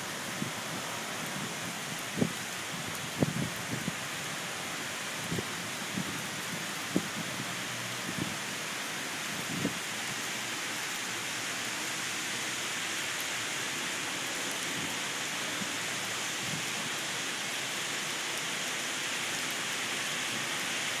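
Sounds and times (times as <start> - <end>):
heavy rain on a street: 0.0 - 21.0.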